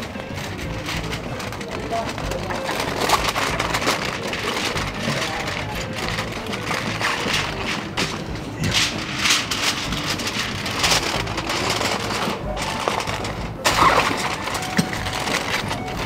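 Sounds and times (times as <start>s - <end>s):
aluminium foil crinkling: 0.0s - 16.0s
faint music: 0.0s - 16.0s.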